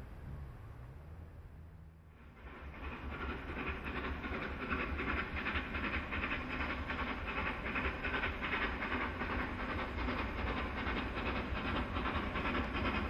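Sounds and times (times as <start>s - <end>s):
low train rumble: 0.0s - 13.0s
steam locomotive exhaust beating: 0.0s - 13.0s.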